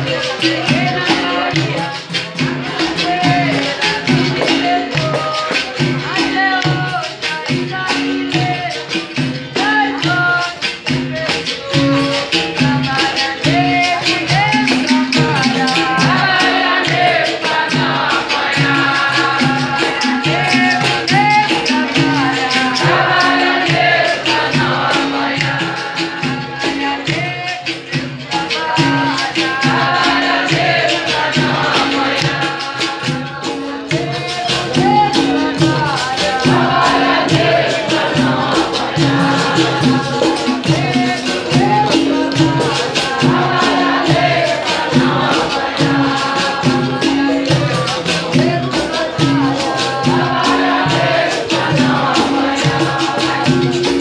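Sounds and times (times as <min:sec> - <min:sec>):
berimbau playing: 0:00.0 - 0:54.0
rattling shaker: 0:00.0 - 0:54.0
voices singing: 0:00.0 - 0:54.0.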